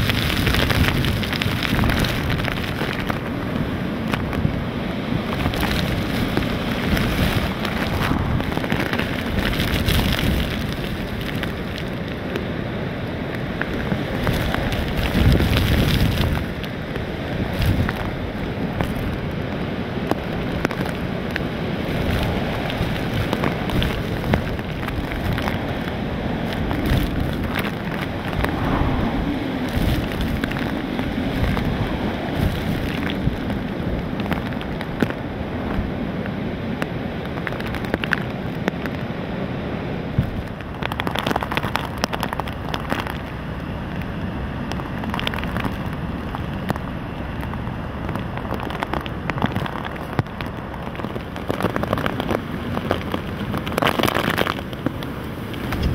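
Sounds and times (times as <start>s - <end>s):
gusts buffeting the microphone: 0.0s - 55.9s
hurricane wind and rain: 0.0s - 55.9s.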